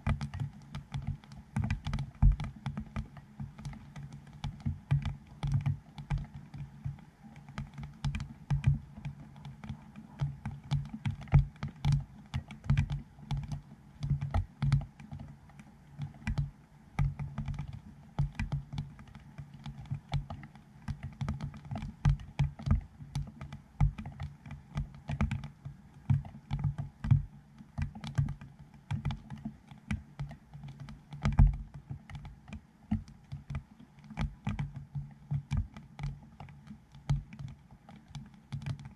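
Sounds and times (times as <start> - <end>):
raindrops tapping on camera: 0.0 - 38.9.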